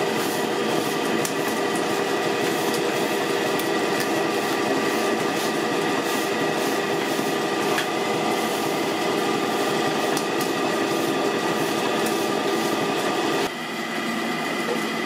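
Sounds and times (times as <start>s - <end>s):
electric mixer motor whine: 0.0s - 15.0s.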